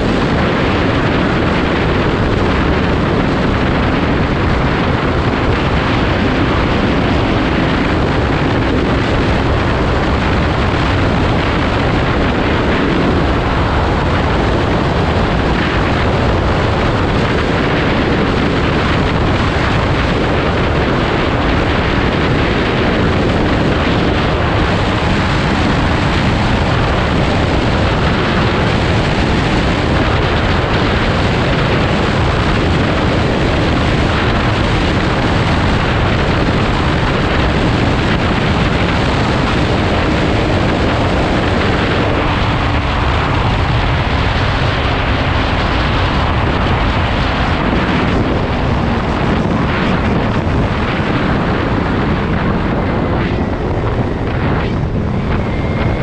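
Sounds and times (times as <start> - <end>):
motorcycle engine drone: 0.0 - 56.0
wind buffeting microphone: 0.0 - 56.0.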